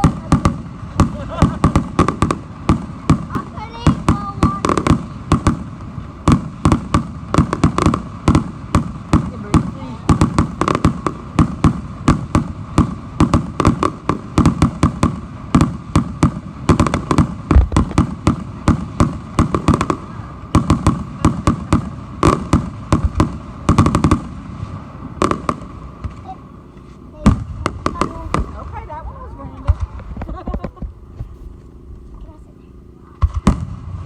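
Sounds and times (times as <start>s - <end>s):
fireworks bangs and cracks: 0.0s - 31.6s, 33.1s - 34.0s.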